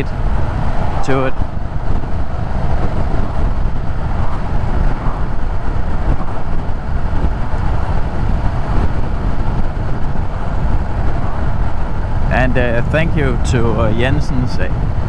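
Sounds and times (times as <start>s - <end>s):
motorcycle engine droning: 0.0s - 15.0s
tire and wind noise on the road: 0.0s - 15.0s
wind buffeting microphone: 0.0s - 15.0s.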